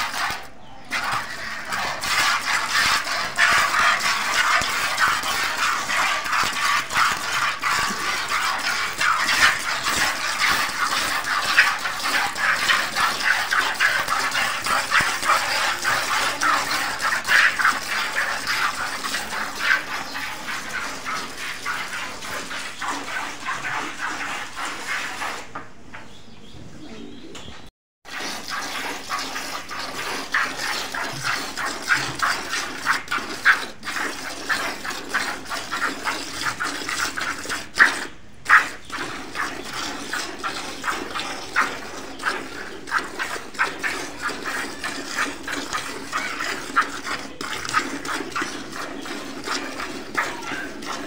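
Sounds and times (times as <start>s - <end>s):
milk squirting into a pail: 0.0s - 25.5s, 28.1s - 51.0s.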